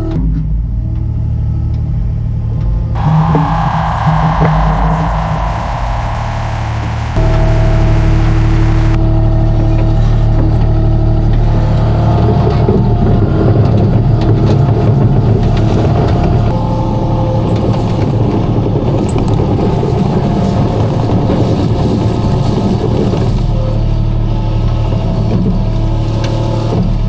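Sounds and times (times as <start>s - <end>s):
skid steer engine running: 3.0s - 27.0s.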